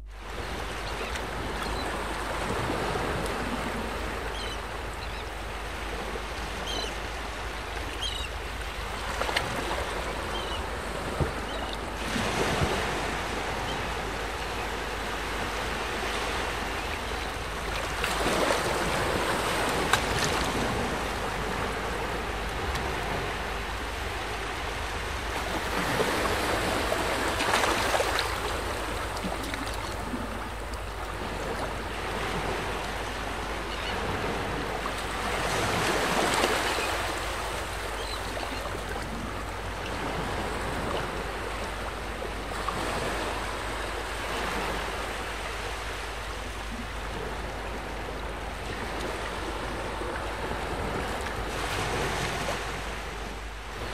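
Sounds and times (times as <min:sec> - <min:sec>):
small waves washing at shore: 0:00.0 - 0:53.9.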